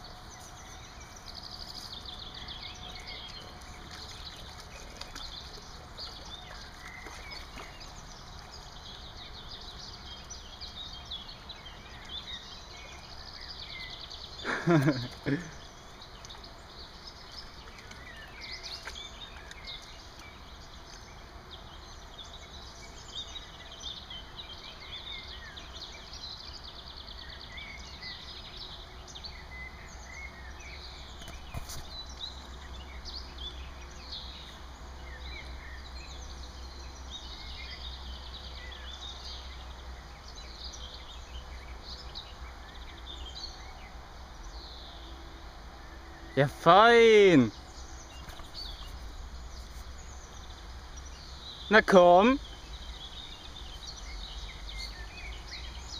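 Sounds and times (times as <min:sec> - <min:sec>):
outdoor background hiss: 0:00.0 - 0:07.0, 0:07.6 - 0:55.9
small birds chirping: 0:00.0 - 0:55.9.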